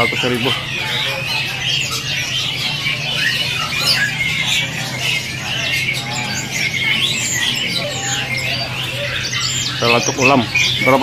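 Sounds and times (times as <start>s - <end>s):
songbirds chirping: 0.0s - 11.0s
steady low hum: 0.0s - 11.0s.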